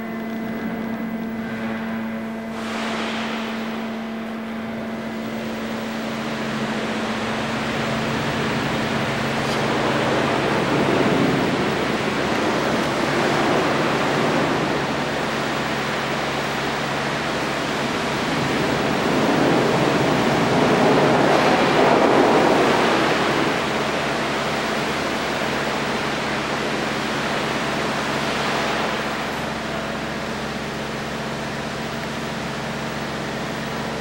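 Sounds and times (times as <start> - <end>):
steady rushing noise: 2.5 - 34.0.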